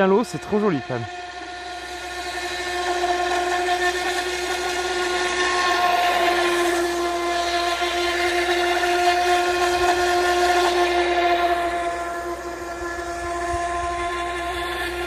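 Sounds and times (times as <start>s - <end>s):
boat motor high whine: 0.0s - 15.0s.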